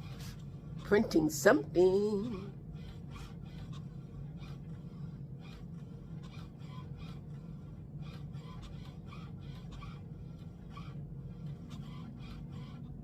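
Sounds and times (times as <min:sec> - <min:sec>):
print carriage swishing: 0:00.0 - 0:13.0
printer motor hum: 0:00.0 - 0:13.0.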